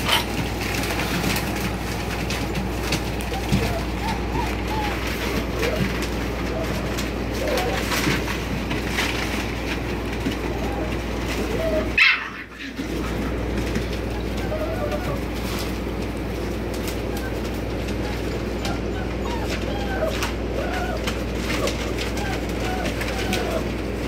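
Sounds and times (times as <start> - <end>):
newspaper rustling: 0.0 - 24.0
puppies whimpering: 0.0 - 24.0.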